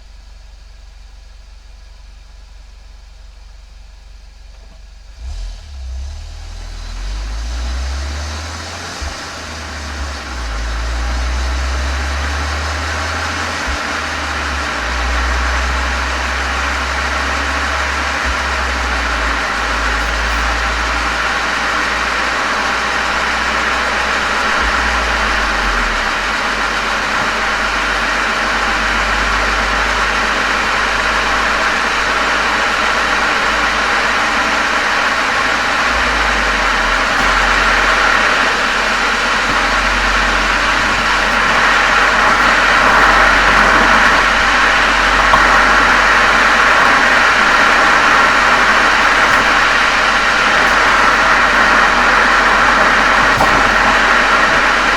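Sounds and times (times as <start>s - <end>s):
car engine running through exhaust: 0.0s - 54.9s.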